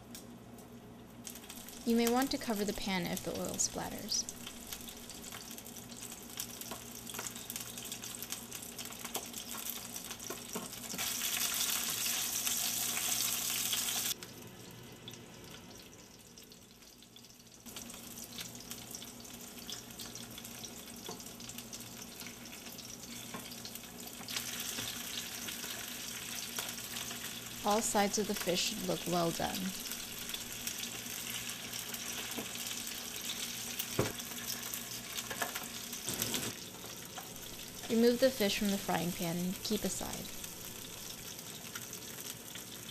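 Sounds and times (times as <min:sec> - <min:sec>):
fish frying in hot oil: 0:01.2 - 0:42.9.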